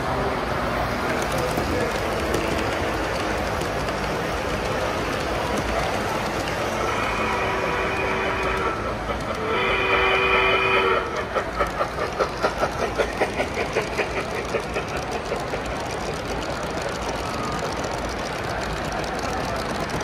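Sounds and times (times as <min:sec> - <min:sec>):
model steam locomotive chuffing: 0:00.0 - 0:20.0
wheels rumbling on track: 0:00.0 - 0:20.0.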